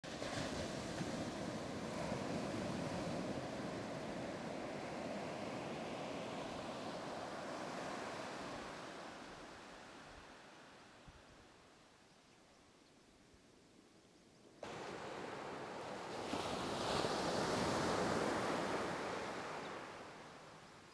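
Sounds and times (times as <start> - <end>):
surf washing up a beach: 0.0 - 11.6, 14.6 - 20.9.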